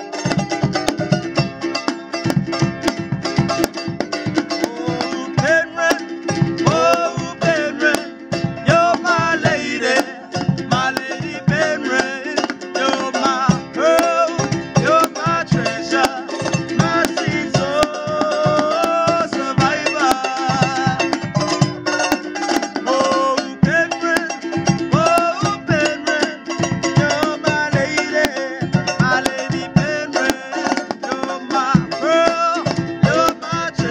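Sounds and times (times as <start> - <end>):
ukuleles strumming: 0.0 - 33.9
men singing: 4.4 - 33.9.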